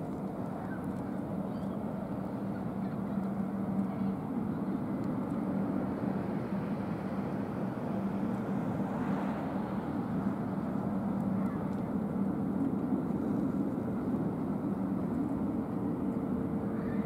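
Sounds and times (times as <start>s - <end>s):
faint held drone: 0.0s - 17.0s
low mechanical hum: 0.0s - 17.0s.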